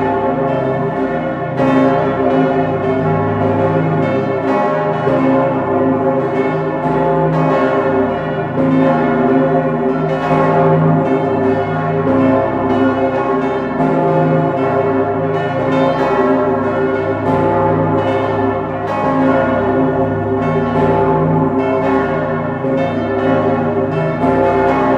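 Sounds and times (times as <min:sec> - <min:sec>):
church bells pealing: 0:00.0 - 0:24.9.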